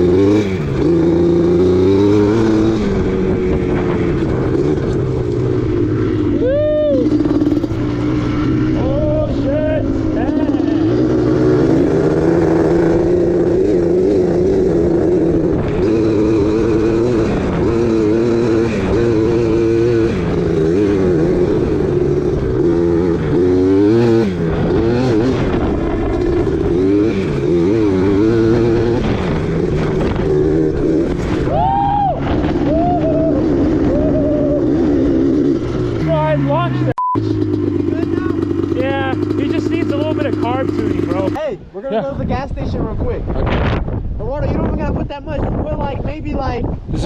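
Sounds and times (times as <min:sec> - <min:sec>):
dirt bike engine revving: 0:00.0 - 0:41.7.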